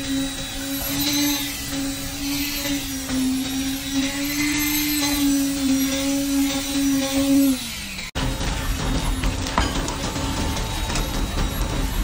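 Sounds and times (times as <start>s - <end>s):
concrete vibrator motor hum: 0.0s - 12.0s.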